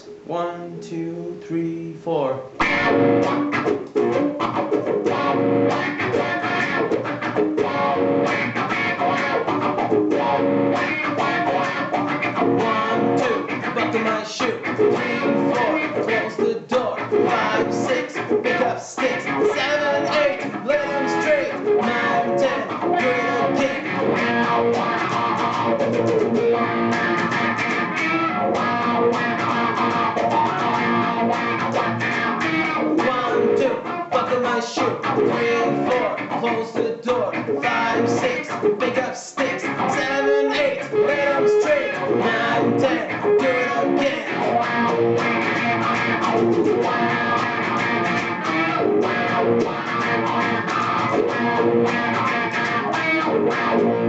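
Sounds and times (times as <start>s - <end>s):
funky electric guitar chords: 2.5s - 54.0s.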